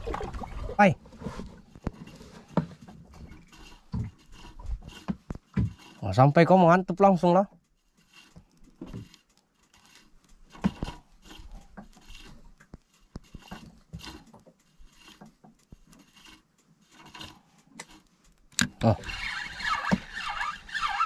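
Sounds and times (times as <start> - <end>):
fishing reel scraping and rustling: 0.1 - 21.0.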